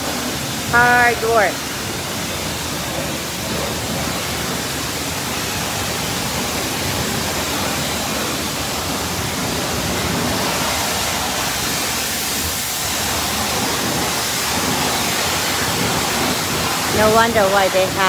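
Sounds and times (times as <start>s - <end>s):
pressure washer spray hissing: 0.0s - 18.0s.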